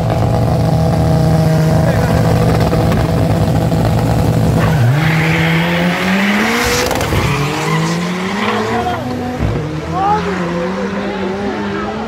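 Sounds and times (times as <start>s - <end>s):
drag cars revving and accelerating: 0.0s - 12.0s.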